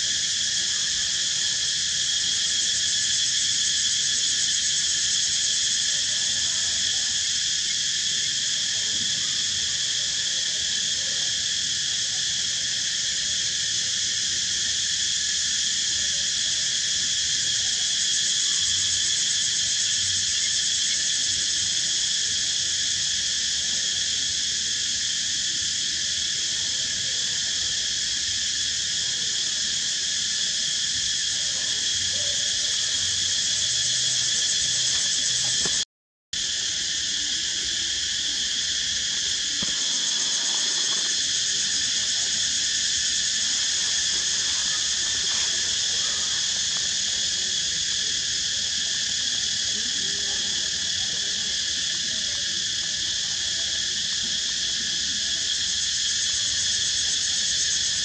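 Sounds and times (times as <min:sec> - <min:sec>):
insect chorus drone: 0:00.0 - 0:35.8, 0:36.4 - 0:58.0.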